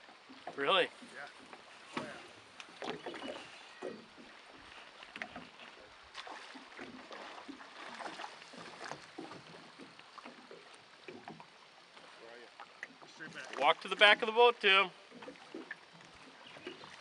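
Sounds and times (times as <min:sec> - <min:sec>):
little splashes: 0:00.0 - 0:17.0
waves lapping against boat hull: 0:00.0 - 0:17.0.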